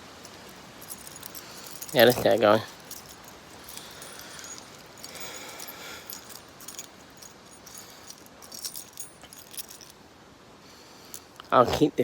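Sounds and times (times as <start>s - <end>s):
keys jingling: 0.0s - 10.0s.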